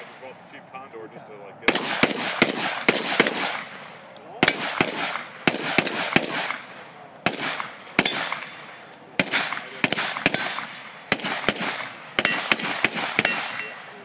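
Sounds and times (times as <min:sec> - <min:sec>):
rifle shots with echo: 0:01.6 - 0:14.0.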